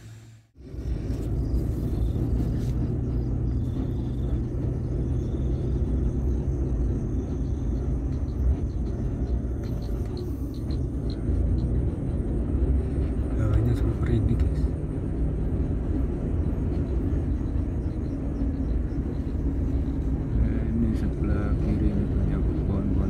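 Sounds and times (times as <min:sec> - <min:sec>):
car engine hum: 0:00.0 - 0:23.0
tyre rumble on rough road: 0:00.6 - 0:23.0.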